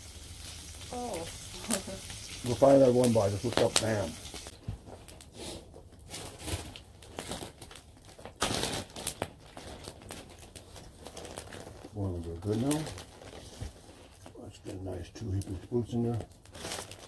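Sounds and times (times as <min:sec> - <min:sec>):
plastic bag crinkling: 0:00.9 - 0:17.0.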